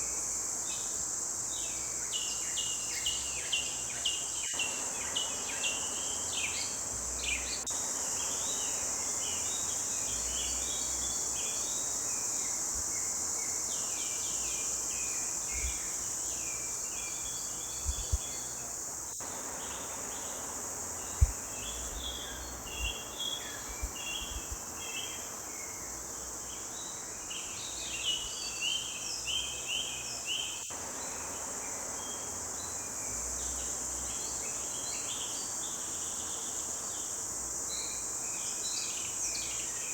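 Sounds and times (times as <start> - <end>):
high-pitched insect buzz: 0.0 - 39.9.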